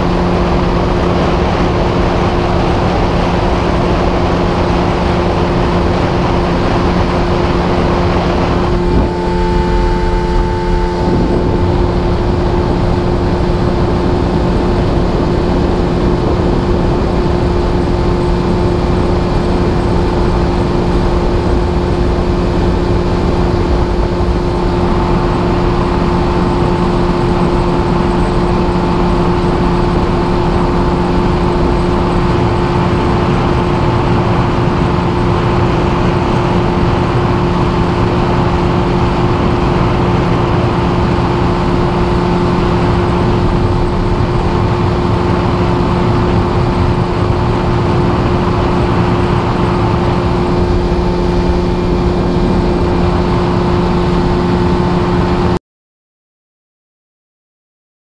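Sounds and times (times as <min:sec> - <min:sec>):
outboard motor running: 0:00.0 - 0:55.6.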